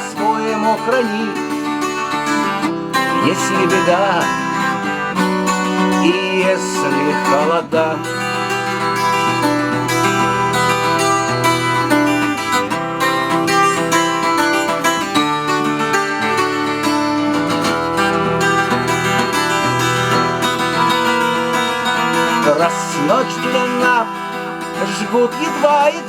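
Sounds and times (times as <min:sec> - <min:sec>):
acoustic guitar plucked and strummed: 0:00.0 - 0:26.0.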